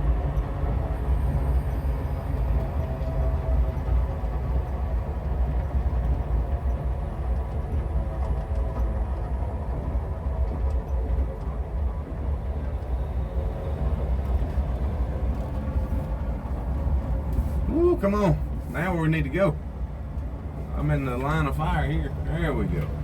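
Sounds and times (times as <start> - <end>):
vehicle engine rumbling at low speed: 0.0 - 23.0.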